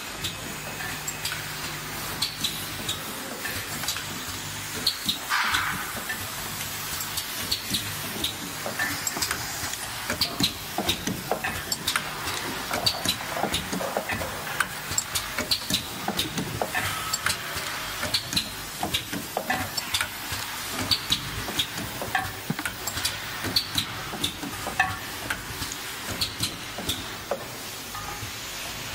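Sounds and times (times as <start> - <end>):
machine clicks and clacks: 0.0 - 28.9
steady machine hiss: 0.0 - 28.9.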